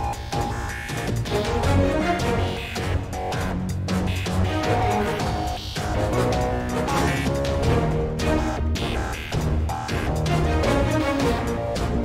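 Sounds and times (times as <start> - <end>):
music with electronic beat: 0.0 - 12.0.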